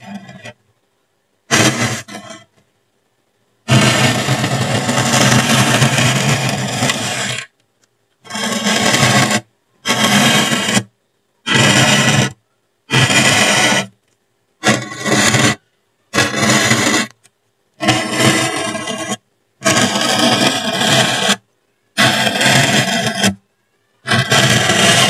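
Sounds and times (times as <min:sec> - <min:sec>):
soldering iron scraping foam: 0:00.0 - 0:00.6, 0:01.5 - 0:02.6, 0:03.6 - 0:07.5, 0:08.2 - 0:14.0, 0:14.6 - 0:17.2, 0:17.8 - 0:21.4, 0:22.0 - 0:23.4, 0:24.0 - 0:25.0.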